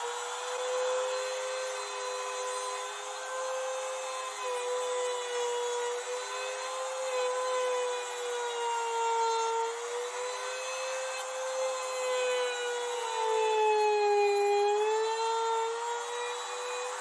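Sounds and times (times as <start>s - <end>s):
trim router cutting wood: 0.0s - 17.0s.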